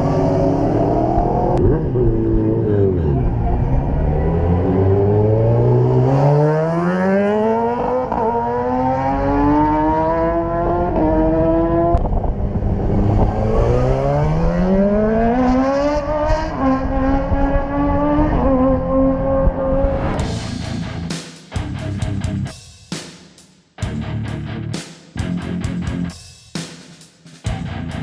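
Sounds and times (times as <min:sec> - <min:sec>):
motorcycle engine accelerating: 0:00.0 - 0:22.5.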